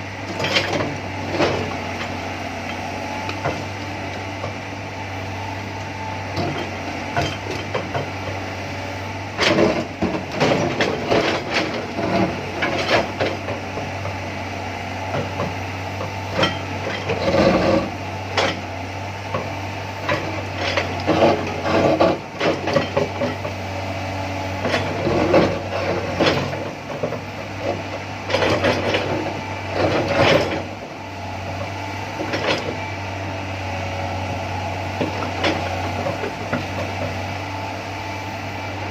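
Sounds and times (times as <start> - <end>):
excavator running: 0.0 - 38.9.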